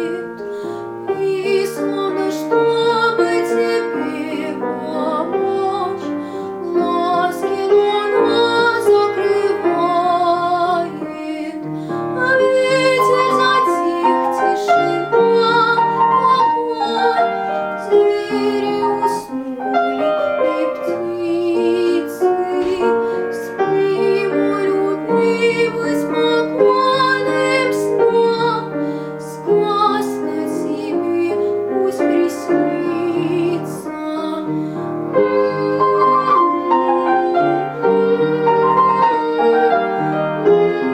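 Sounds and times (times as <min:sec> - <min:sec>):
piano accompaniment: 0:00.0 - 0:40.9.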